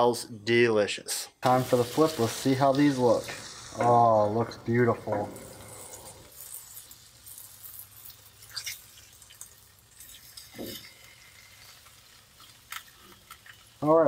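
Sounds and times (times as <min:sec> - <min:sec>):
fish sizzling in skillet: 0:01.4 - 0:14.0.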